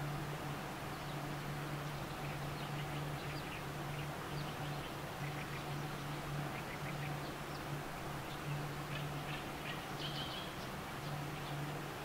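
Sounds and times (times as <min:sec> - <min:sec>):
intermittent low hum: 0:00.0 - 0:12.0.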